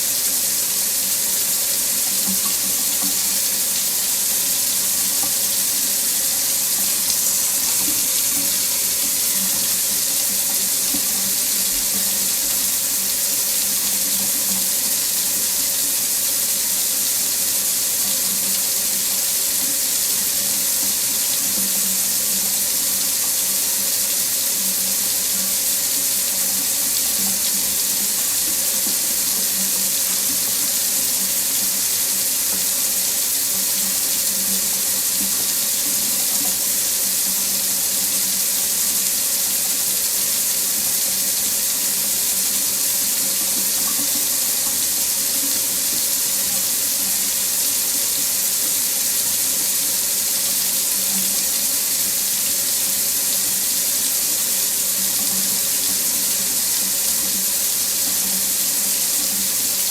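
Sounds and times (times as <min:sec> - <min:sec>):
tap water running into a sink: 0:00.0 - 0:59.9.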